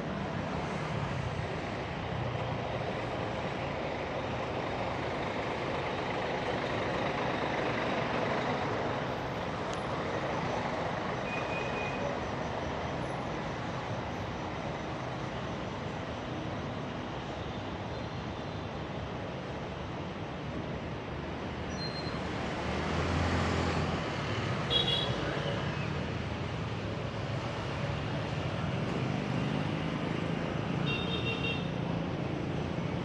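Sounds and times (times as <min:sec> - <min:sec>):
road traffic: 0:00.0 - 0:33.0.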